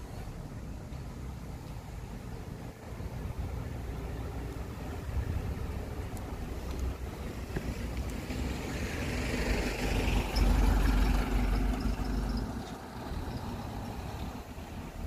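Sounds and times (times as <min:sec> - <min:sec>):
van driving past: 0:00.0 - 0:15.0.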